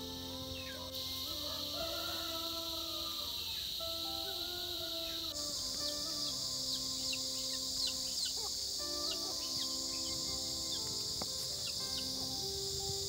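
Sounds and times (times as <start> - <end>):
insect chorus chirping: 0.0 - 13.0
soft background music: 0.0 - 13.0.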